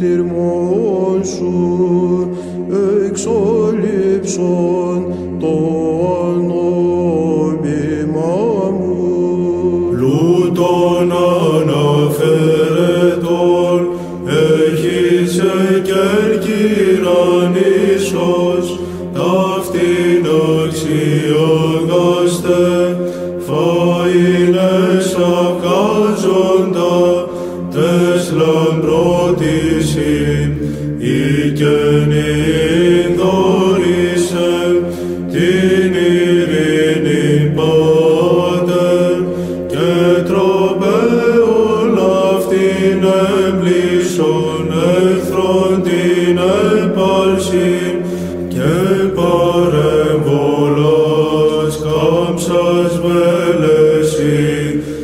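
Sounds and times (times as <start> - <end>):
held drone note: 0.0 - 55.0
men chanting ornamented melody: 0.0 - 55.0.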